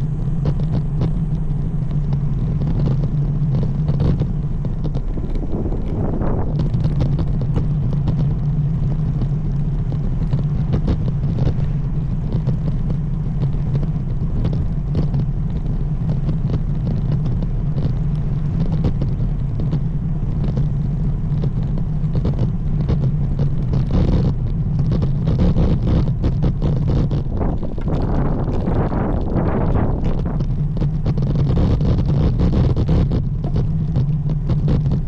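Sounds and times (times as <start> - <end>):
small ticks: 0.0 - 35.0
wind and road rumble: 0.0 - 35.0.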